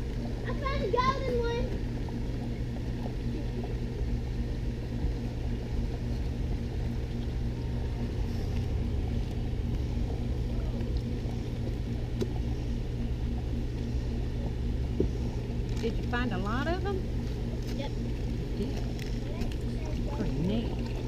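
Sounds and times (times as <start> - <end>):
machinery hum and rumble: 0.0 - 21.0.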